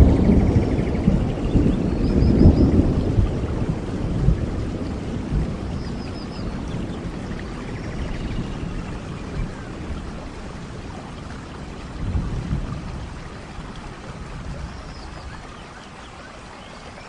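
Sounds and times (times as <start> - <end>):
thunder rumble: 0.0 - 15.5
heavy rain: 0.0 - 17.0.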